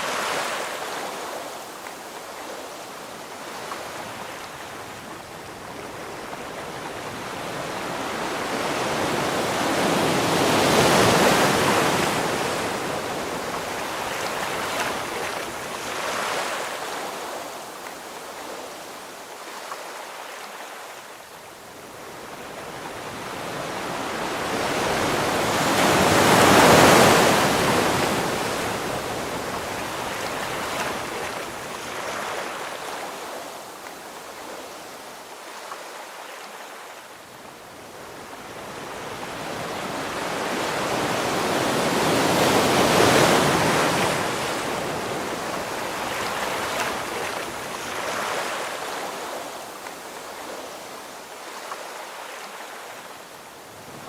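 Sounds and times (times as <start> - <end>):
ocean waves breaking: 0.0 - 18.8, 22.2 - 37.1, 38.0 - 54.0.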